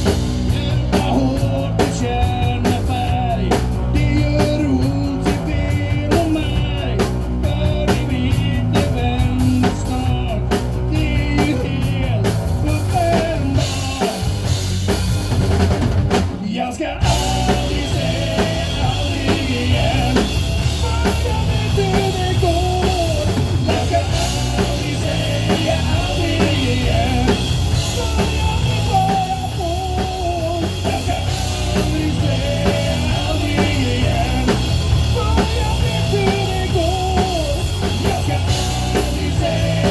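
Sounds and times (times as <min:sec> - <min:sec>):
person singing: 0:00.0 - 0:14.4, 0:16.4 - 0:39.9
band playing rock-pop song: 0:00.0 - 0:39.9
drum kit: 0:00.0 - 0:39.9.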